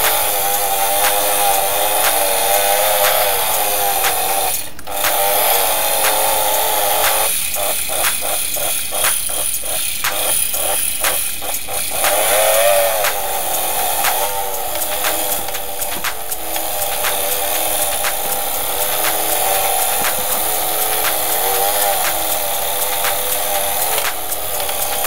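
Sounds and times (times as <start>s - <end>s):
electric hand mixer whining: 0.0s - 25.0s.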